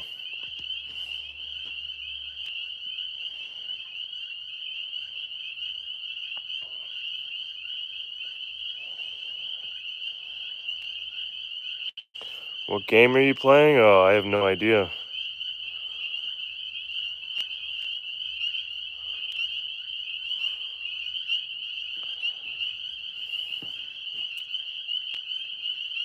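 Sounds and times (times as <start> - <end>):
tree frogs trilling: 0.0 - 26.0.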